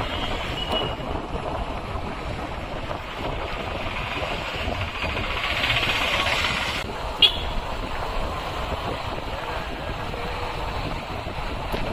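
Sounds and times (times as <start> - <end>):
vehicle rattling: 0.0 - 11.9.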